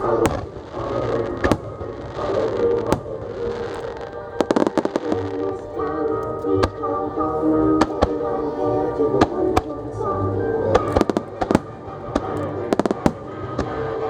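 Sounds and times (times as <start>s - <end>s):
fireworks bursting bangs: 0.0s - 6.9s, 9.2s - 14.0s
music: 0.0s - 14.0s.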